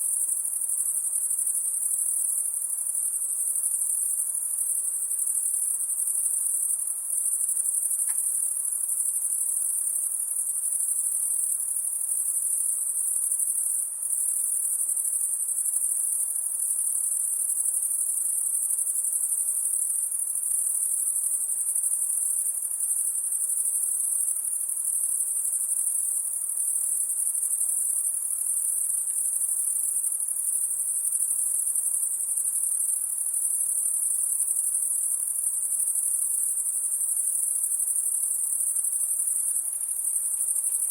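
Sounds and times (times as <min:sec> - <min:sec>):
shrill night insects chorus: 0:00.0 - 0:40.9.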